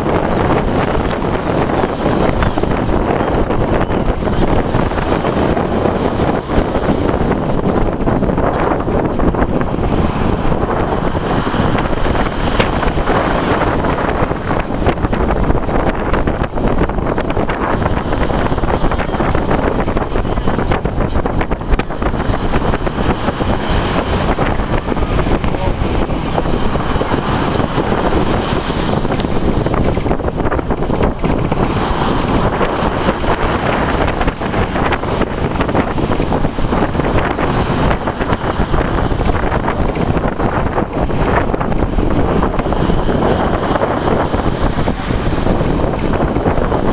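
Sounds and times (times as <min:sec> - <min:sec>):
wind blowing across microphone: 0:00.0 - 0:46.9.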